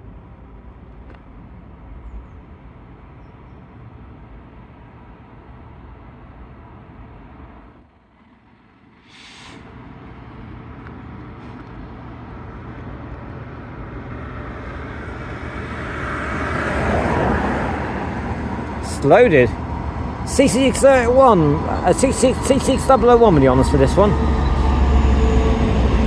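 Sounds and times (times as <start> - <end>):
diesel locomotive engine: 0.0 - 26.0
freight train rumble: 0.0 - 26.0.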